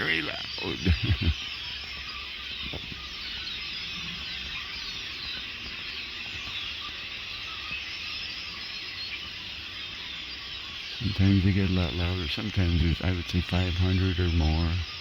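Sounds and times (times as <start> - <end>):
flock of blackbirds chattering: 0.0 - 15.0.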